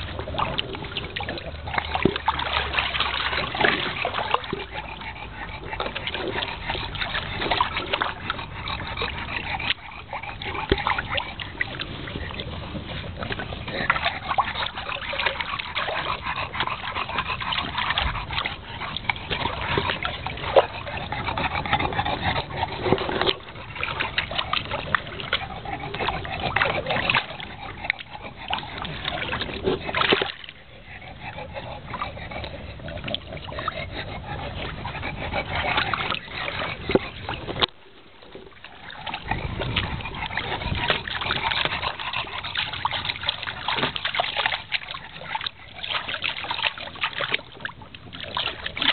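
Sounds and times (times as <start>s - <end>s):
dogs splashing in water: 0.0s - 48.9s.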